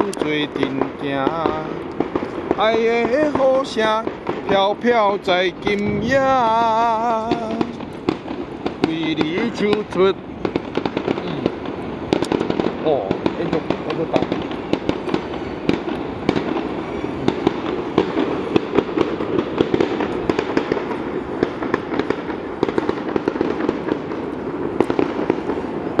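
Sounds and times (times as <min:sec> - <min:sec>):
crackling pops: 0:00.0 - 0:26.0
steady rushing noise: 0:00.0 - 0:26.0.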